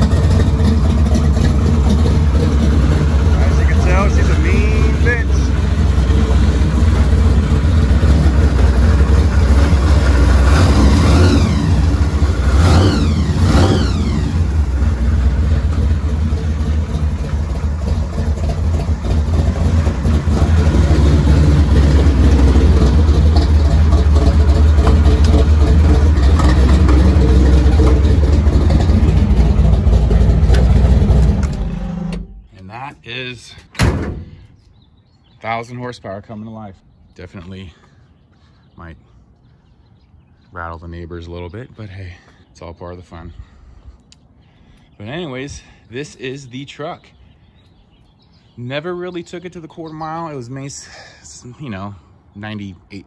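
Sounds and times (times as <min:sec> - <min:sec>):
car engine rumbling: 0:00.0 - 0:35.7, 0:39.2 - 0:53.0.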